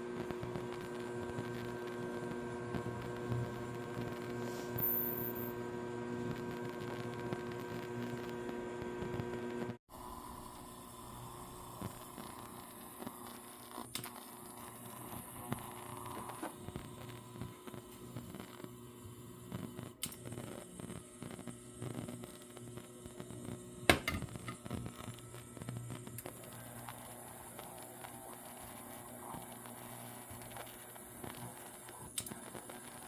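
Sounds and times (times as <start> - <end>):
induction cooktop humming: 0.0 - 33.0.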